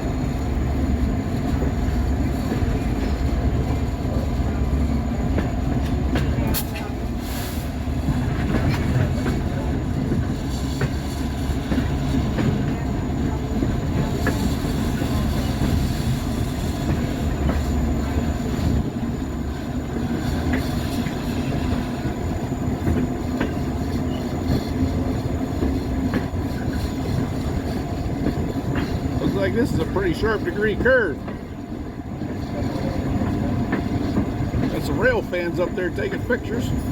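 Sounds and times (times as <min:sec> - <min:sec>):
train rumbling on rails: 0:00.0 - 0:36.9.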